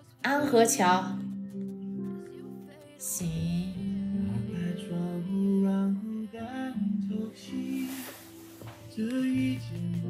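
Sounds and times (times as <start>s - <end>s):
slow song through speaker: 0.0s - 10.0s.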